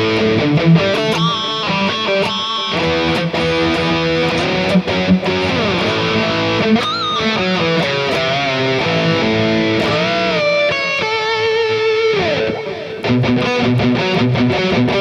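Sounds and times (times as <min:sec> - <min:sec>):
electric guitar lead line: 0:00.0 - 0:15.0.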